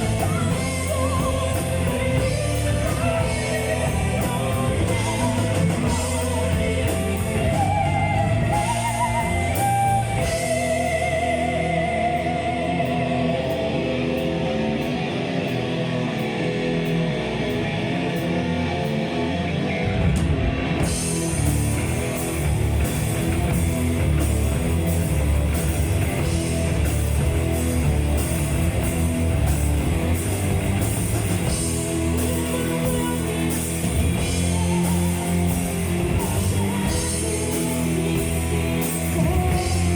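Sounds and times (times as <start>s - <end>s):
metal band playing live: 0.0s - 39.9s
wavering guitar lead line: 0.0s - 39.9s.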